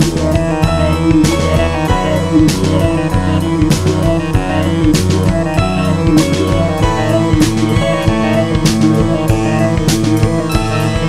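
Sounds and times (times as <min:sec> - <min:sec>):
guitar over drum beat: 0:00.0 - 0:11.0.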